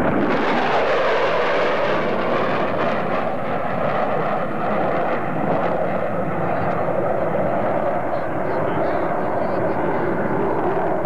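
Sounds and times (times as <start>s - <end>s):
jet bomber engines roaring: 0.0s - 11.0s.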